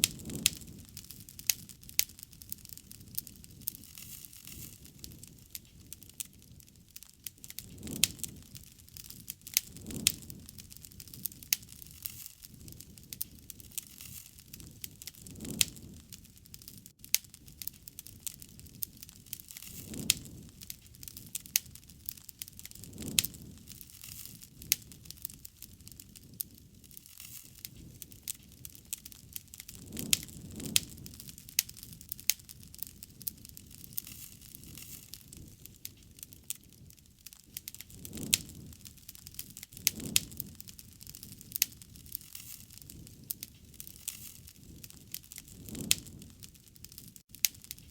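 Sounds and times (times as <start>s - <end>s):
low rumble of flame: 0.0s - 47.9s
wood fire crackling and popping: 0.0s - 47.9s.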